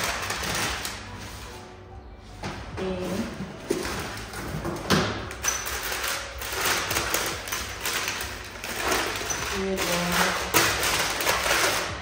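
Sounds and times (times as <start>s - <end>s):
rustling of handled items: 0.0s - 12.0s.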